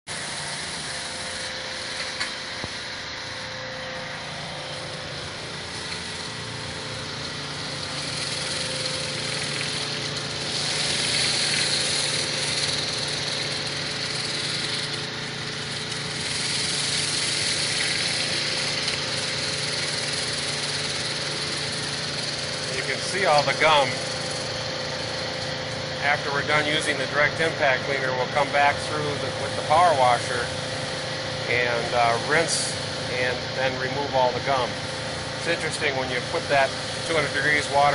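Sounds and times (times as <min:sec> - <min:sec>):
pressure washer running: 0:00.0 - 0:37.9
surface cleaner hissing on concrete: 0:04.6 - 0:37.9.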